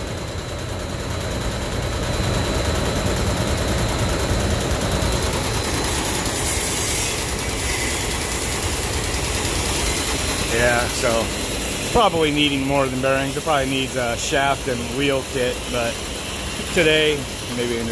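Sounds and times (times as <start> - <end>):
blower fans running: 0.0 - 17.9
low rumble of shaking unit: 0.0 - 17.9.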